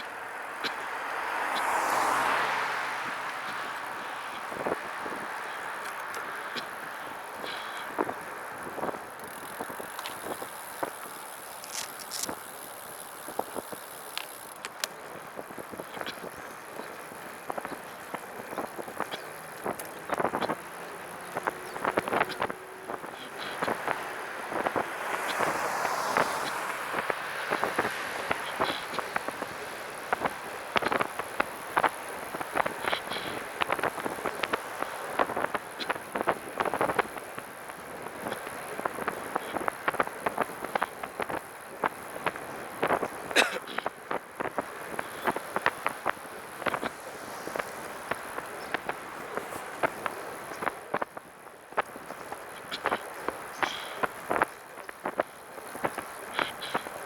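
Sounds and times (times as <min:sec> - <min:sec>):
wind and road hiss: 0:00.0 - 0:57.0
trike clicks and rattles: 0:03.4 - 0:25.6, 0:26.4 - 0:57.0.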